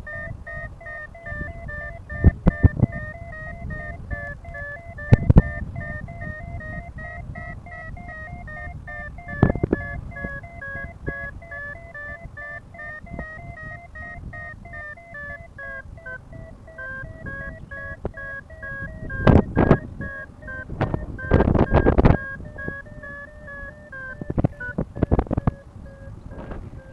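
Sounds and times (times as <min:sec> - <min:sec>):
variometer beeping: 0:00.0 - 0:26.9
wind buffets: 0:00.0 - 0:26.9
wind rumble on microphone: 0:00.0 - 0:26.9.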